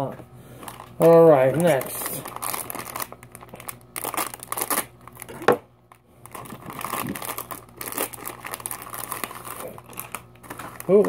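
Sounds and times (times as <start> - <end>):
foil packet crinkling: 0.5 - 11.0.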